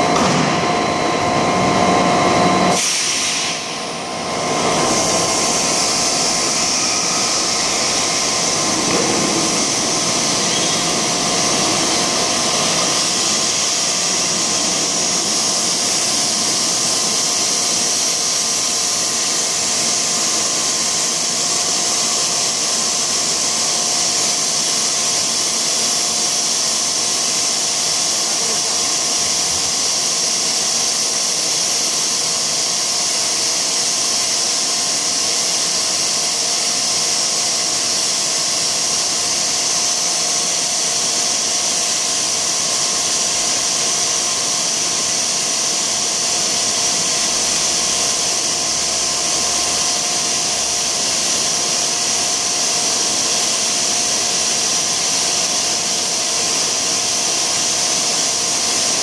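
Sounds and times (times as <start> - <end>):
machine whirring hiss: 0.0 - 59.0.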